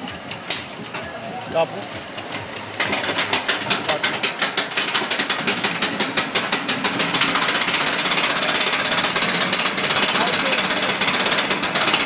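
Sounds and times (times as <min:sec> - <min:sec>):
roller coaster chain lift clacking: 0:00.0 - 0:12.0.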